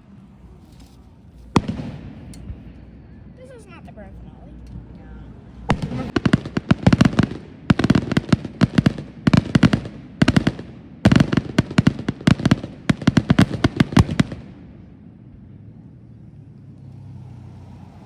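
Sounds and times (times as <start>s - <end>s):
fireworks crackling: 0.4s - 14.9s.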